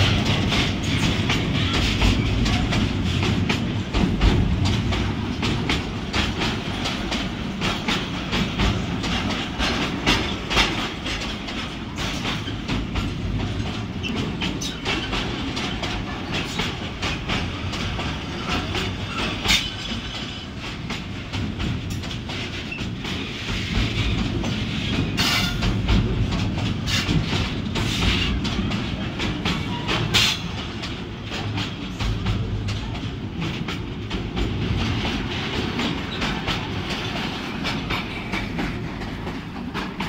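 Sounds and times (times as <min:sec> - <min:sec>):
train wheels rumbling: 0:00.0 - 0:40.0
wheels clicking over rail joints: 0:00.0 - 0:40.0.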